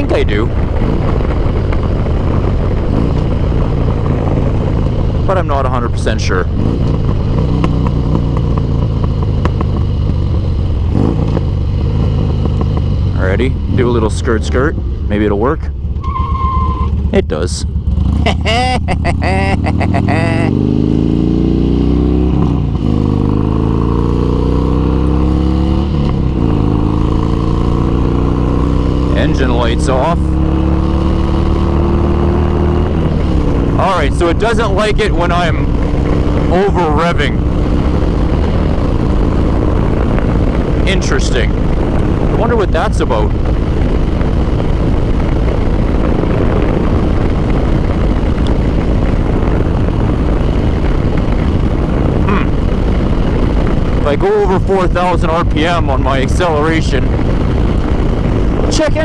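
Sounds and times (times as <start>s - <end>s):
motorcycle engine accelerating: 0.0s - 59.0s
wind rushing over microphone: 0.0s - 59.0s.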